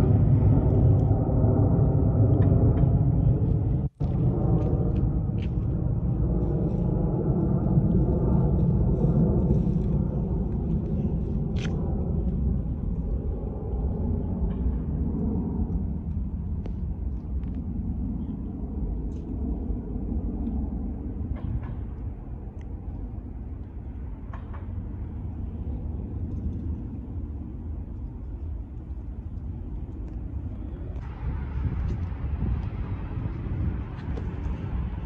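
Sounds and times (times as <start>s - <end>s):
jet engines rumbling overhead: 0.0s - 35.0s.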